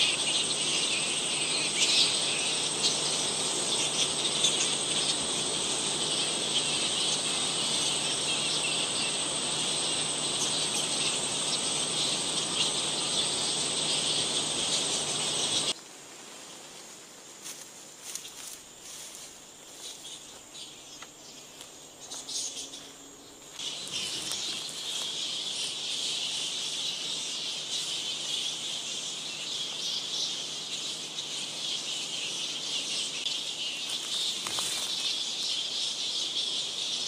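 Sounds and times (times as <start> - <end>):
bats squeaking and chattering: 0.0 - 15.8, 19.8 - 37.0.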